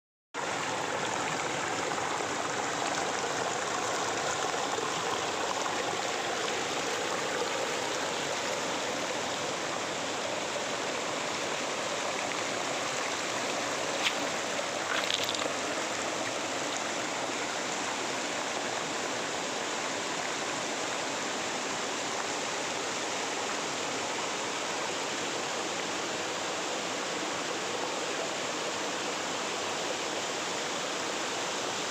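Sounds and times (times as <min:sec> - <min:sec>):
river water running: 0:00.4 - 0:31.9.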